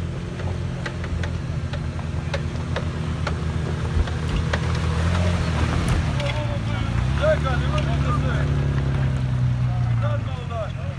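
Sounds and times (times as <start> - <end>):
truck engine running at low revs: 0.0 - 10.9.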